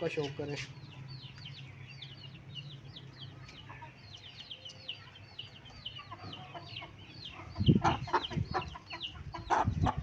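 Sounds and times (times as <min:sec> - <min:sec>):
chicks peeping: 0:00.1 - 0:10.0.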